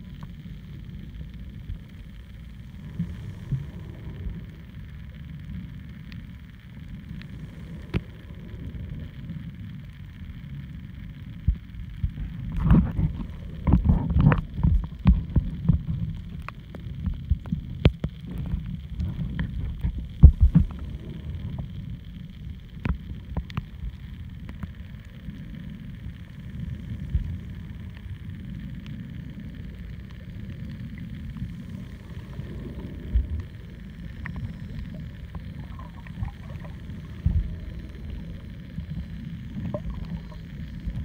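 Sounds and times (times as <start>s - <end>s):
underwater rumble: 0.0s - 41.0s.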